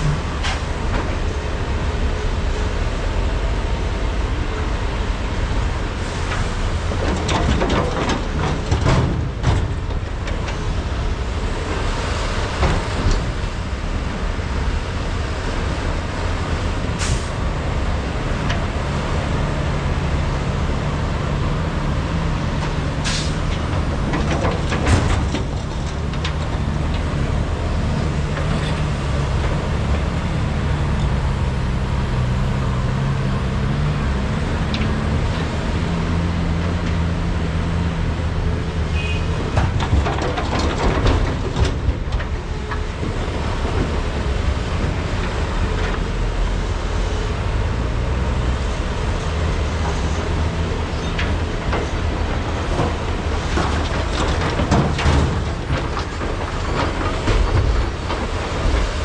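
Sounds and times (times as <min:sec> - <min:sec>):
excavator diesel engines under load: 0:00.0 - 0:59.0.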